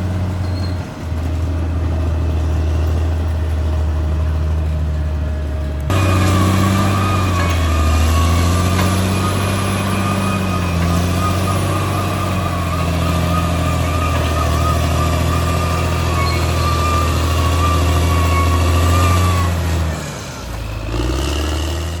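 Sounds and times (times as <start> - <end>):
bulldozer diesel engine droning: 0.0 - 22.0.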